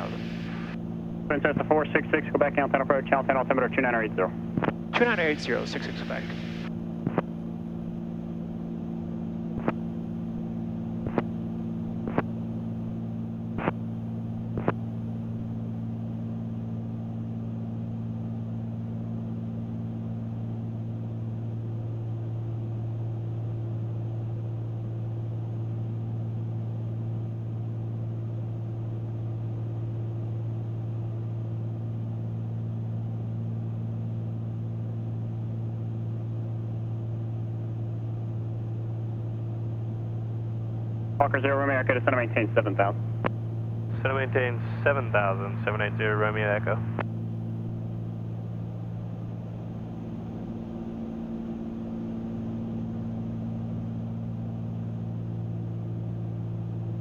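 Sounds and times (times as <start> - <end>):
propeller plane engines droning: 0.0 - 24.1, 34.2 - 57.0.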